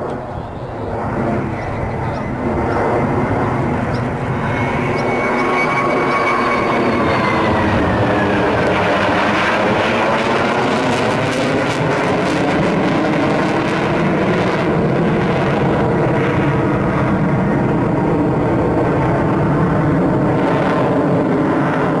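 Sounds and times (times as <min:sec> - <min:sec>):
jet engines flying past: 0:00.0 - 0:22.0.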